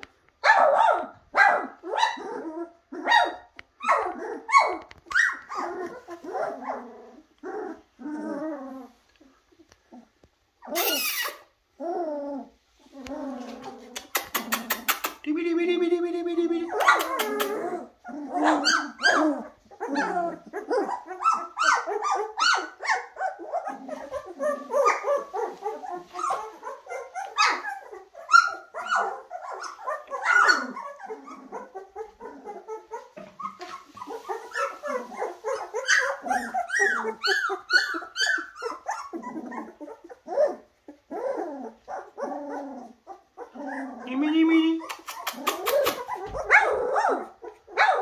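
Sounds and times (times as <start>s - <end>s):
puppies crying: 0.5s - 9.1s, 9.9s - 15.2s, 16.5s - 48.0s.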